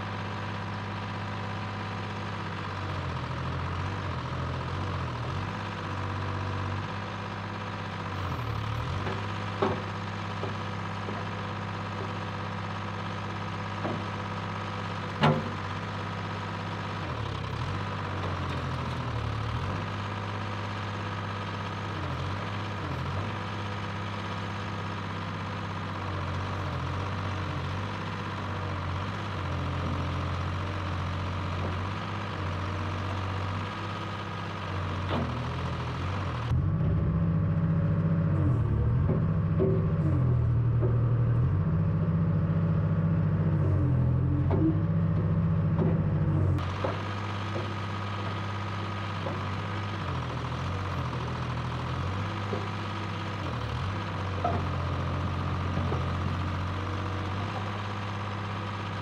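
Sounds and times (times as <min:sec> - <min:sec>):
backhoe engine running: 0:00.0 - 0:59.0.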